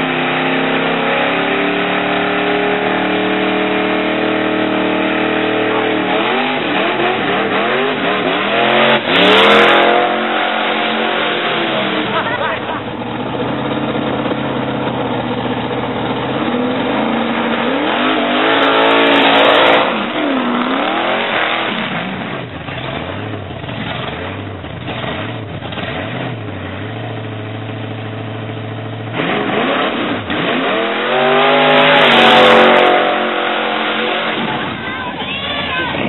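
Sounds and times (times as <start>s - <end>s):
car engines revving hard: 0.0s - 36.0s.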